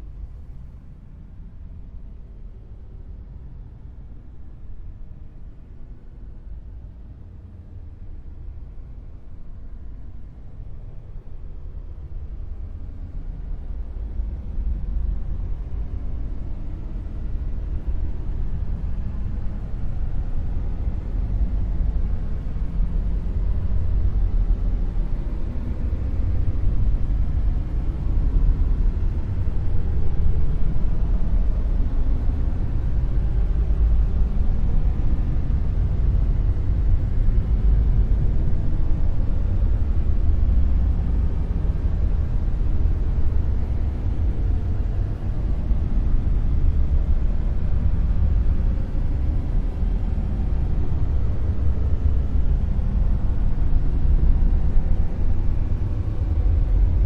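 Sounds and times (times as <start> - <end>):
deep rumbling noise: 7.5 - 57.0.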